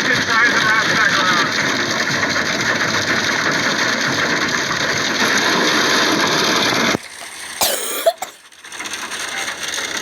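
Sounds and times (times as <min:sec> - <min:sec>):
road and engine noise: 0:00.0 - 0:10.0.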